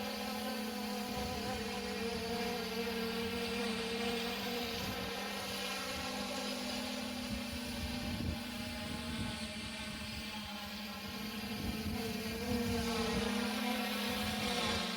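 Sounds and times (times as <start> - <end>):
drone propellers buzzing: 0.0 - 14.9.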